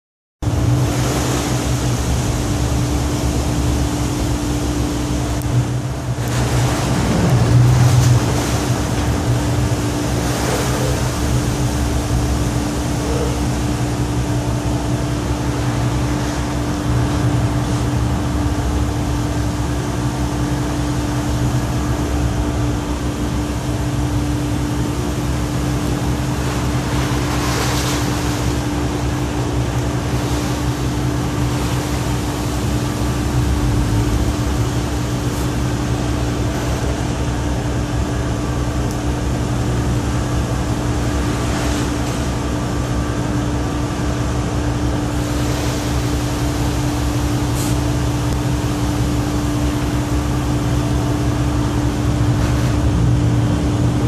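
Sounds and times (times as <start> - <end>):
machinery low hum: 0.4 - 54.0
sea water washing: 0.4 - 54.0.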